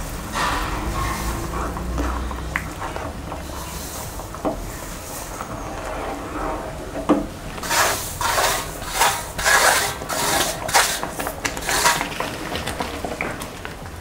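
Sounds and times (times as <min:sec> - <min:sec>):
spatula scraping steel pan: 0:00.0 - 0:12.8.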